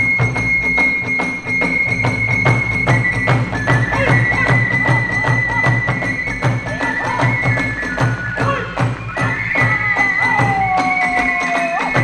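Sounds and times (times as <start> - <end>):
bamboo flute holding long notes: 0.0 - 12.0
taiko drums beating: 0.0 - 12.0.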